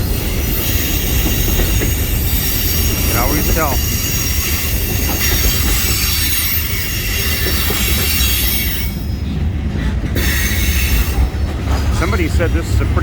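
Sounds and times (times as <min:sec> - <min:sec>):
freight train cars rumbling: 0:00.0 - 0:13.0
steel wheels squealing on rails: 0:00.0 - 0:13.0.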